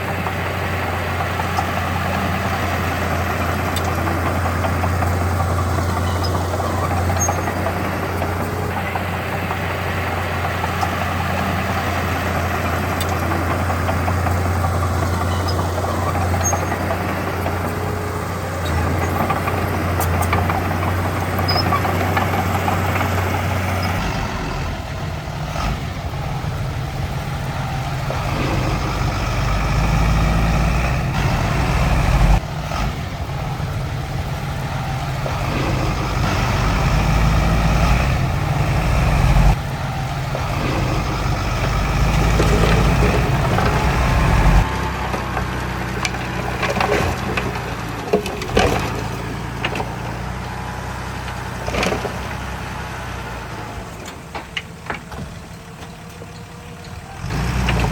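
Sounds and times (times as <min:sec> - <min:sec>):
heavy machine diesel engines: 0:00.0 - 0:57.9.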